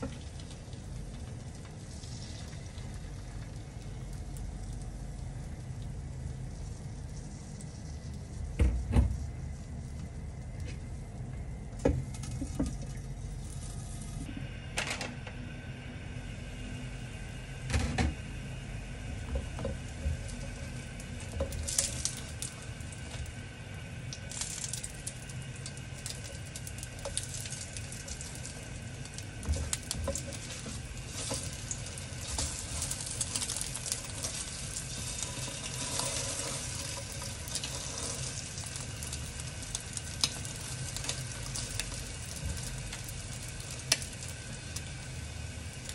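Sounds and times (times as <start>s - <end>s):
bread sizzling in hot oil: 0.0s - 14.3s, 16.0s - 45.9s.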